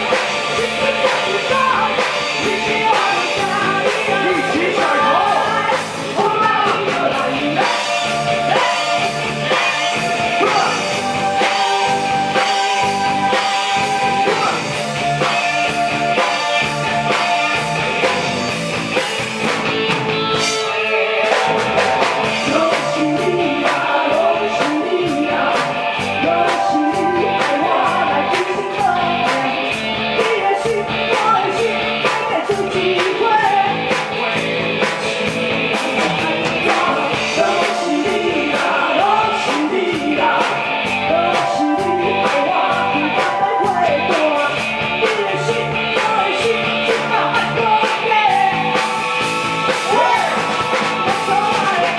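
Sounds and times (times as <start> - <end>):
person singing: 0.0 - 17.4, 21.0 - 48.8, 49.8 - 50.5, 51.1 - 51.9
rock band playing: 0.0 - 51.9
steady drum beat: 0.0 - 51.9.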